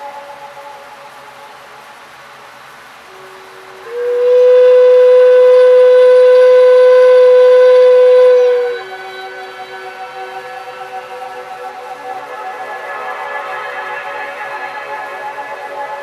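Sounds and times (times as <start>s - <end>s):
faint steady background tones: 0.0s - 16.0s
long steady horn-like tone: 0.0s - 16.0s.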